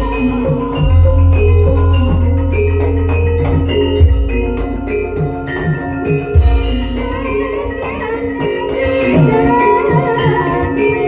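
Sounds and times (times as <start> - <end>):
gamelan music: 0.0 - 11.0.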